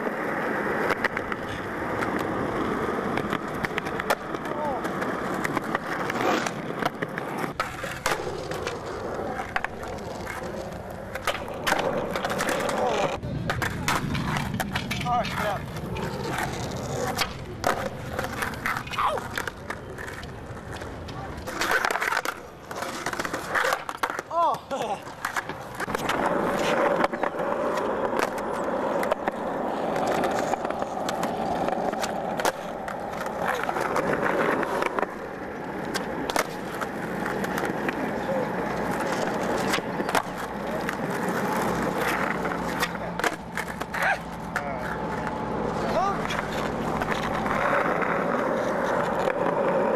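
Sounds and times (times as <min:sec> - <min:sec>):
skateboard clacks: 0:00.0 - 0:49.9
skateboard wheels rolling on concrete: 0:00.0 - 0:49.9.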